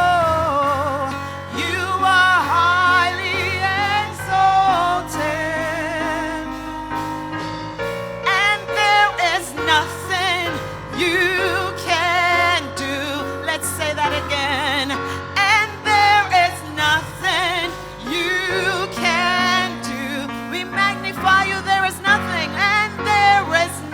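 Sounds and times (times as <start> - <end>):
person singing with vibrato: 0.0 - 23.9
sustained accompaniment chords: 0.0 - 23.9.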